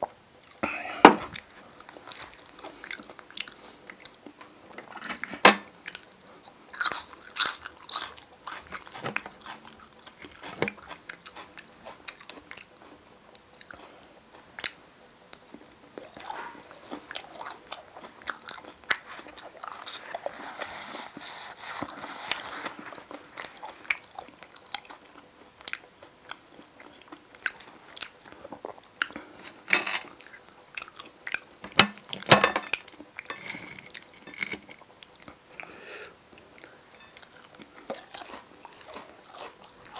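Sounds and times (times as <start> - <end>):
close chewing: 1.3 - 39.9.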